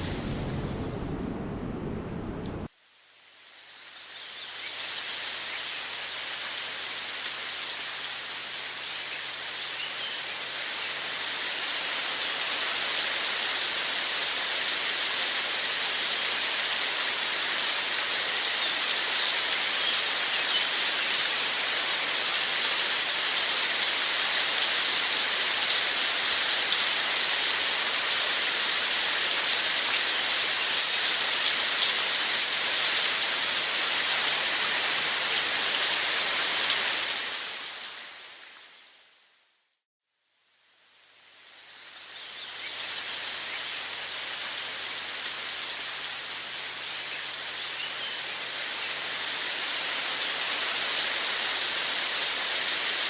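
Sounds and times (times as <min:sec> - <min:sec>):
steady rain falling: 0:00.0 - 0:39.5, 0:40.4 - 0:53.0.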